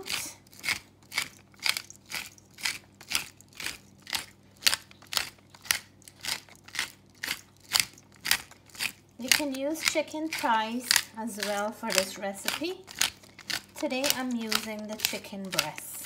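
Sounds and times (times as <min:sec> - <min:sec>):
pepper mill grinding: 0:00.0 - 0:16.0.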